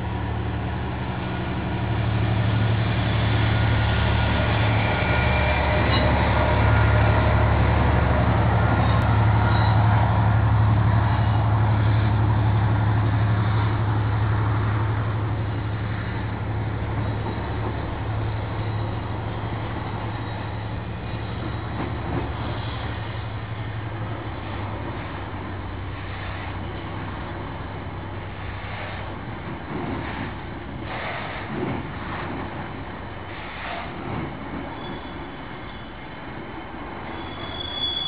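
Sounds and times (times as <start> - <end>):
freight wagons rumbling on track: 0.0 - 38.0
locomotive engine drone: 0.0 - 38.0.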